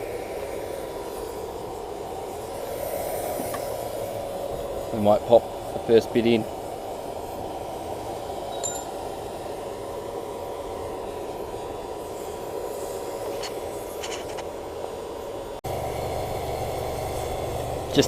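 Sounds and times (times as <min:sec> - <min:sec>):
electric blower rushing air: 0:00.0 - 0:18.0.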